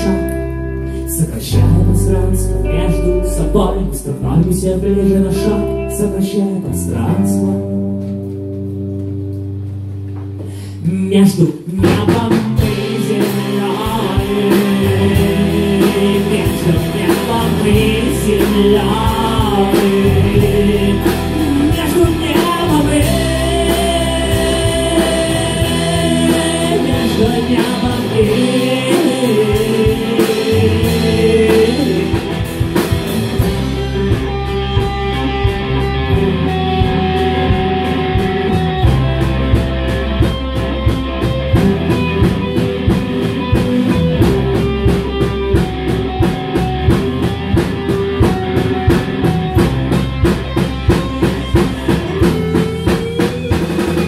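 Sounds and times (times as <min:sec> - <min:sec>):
acoustic guitar: 0:00.0 - 0:54.0
keyboard: 0:00.0 - 0:54.0
drum kit: 0:06.6 - 0:54.0.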